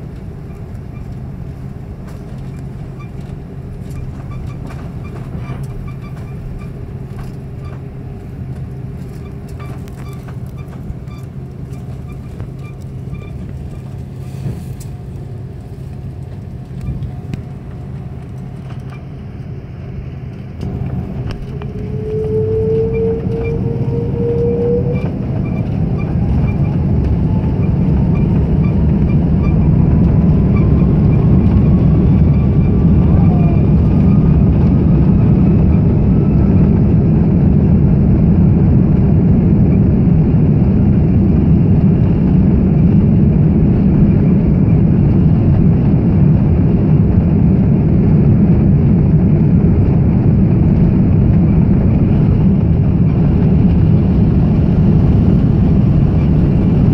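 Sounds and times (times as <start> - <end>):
jet engines spooling up: 0.0 - 56.9.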